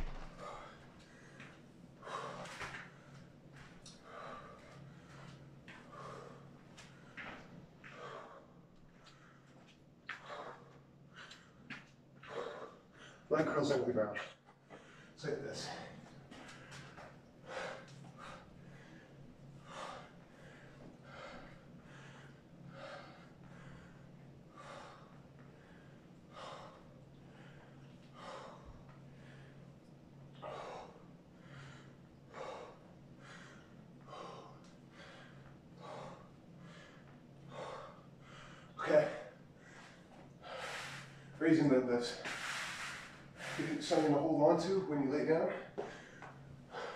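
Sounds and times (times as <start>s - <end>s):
man breathing hard: 0.0s - 13.5s, 14.4s - 44.3s, 45.4s - 46.9s
faint steady hum: 0.0s - 46.9s.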